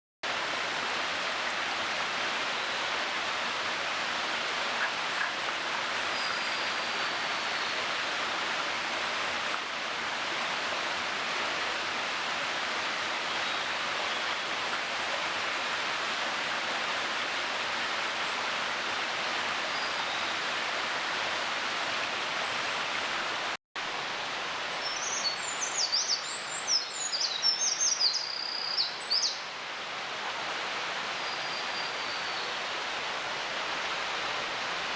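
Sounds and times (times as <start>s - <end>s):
stream rushing: 0.2s - 34.9s.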